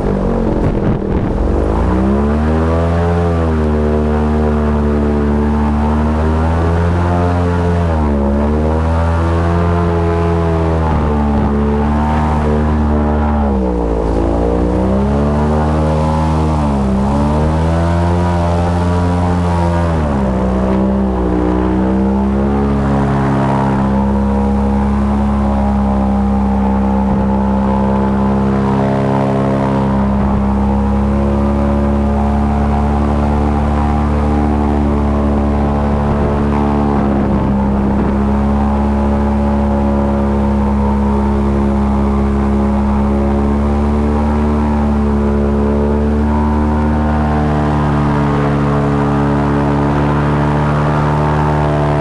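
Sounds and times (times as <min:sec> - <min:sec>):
airboat engine and propeller: 0:00.0 - 0:52.0.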